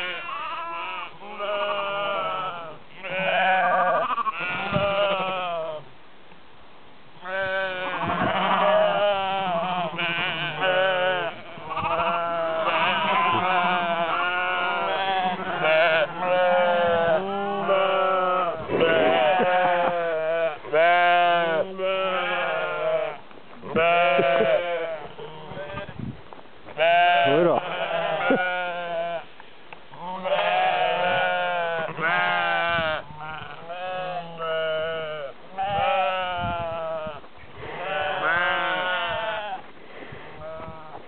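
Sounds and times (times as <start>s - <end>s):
sheep and lambs bleating: 0.0s - 5.9s, 7.2s - 26.0s, 26.7s - 39.7s, 40.3s - 41.0s.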